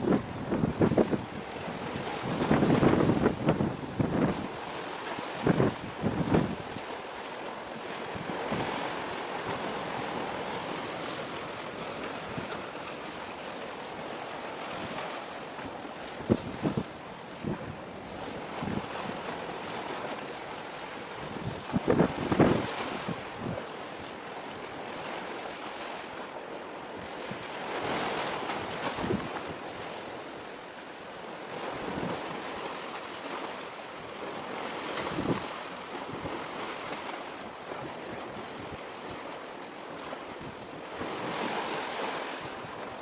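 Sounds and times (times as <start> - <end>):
wind on microphone: 0.0 - 25.9, 26.8 - 30.4, 31.3 - 43.0
sea waves: 0.0 - 43.0.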